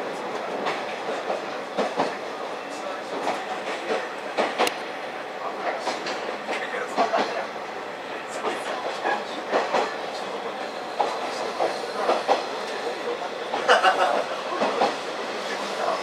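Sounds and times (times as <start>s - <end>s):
railcar rumble: 0.0s - 16.0s
wheels clacking on track: 0.3s - 7.5s, 8.3s - 16.0s.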